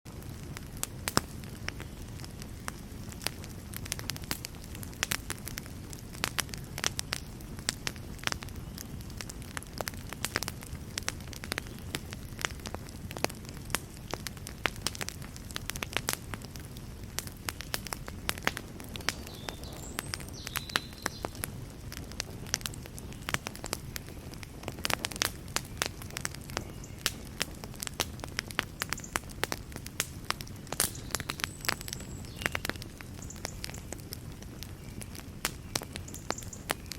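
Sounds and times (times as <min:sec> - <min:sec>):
low rumble of flame: 0:00.1 - 0:36.9
wood fire crackling and popping: 0:00.1 - 0:36.9.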